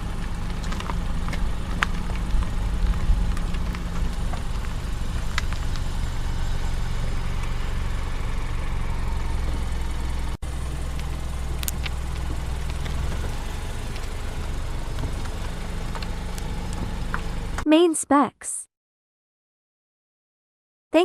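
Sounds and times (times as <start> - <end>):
diesel truck engine running: 0.0 - 17.6.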